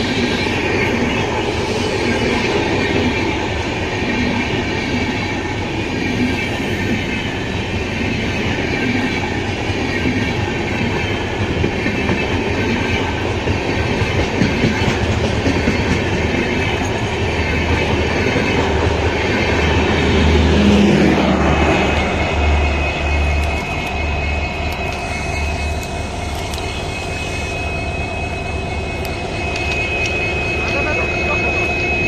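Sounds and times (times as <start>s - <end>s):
high whine from rails: 0.0s - 32.0s
train coaches rumbling past: 0.0s - 32.0s.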